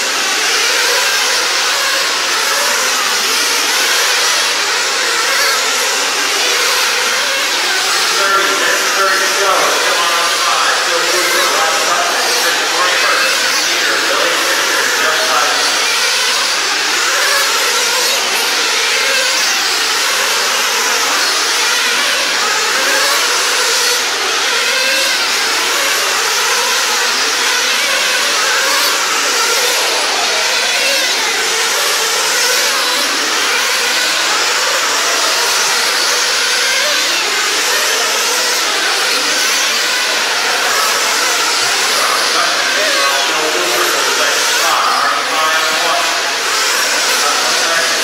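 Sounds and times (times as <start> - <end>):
rc car engines whining: 0.0 - 48.0.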